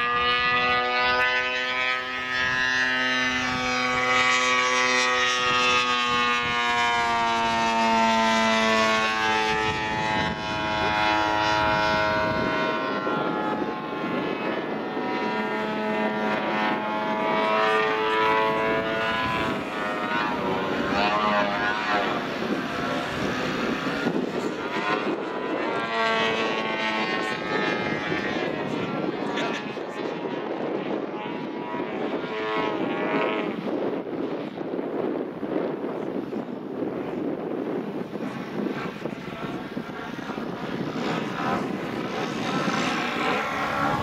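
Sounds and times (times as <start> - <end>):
model plane engine overhead: 0.0 - 44.0.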